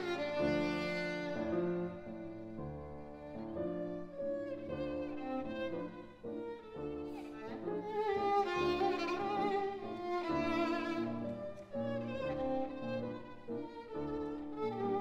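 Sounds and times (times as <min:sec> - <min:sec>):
violin melody with vibrato: 0:00.0 - 0:15.0.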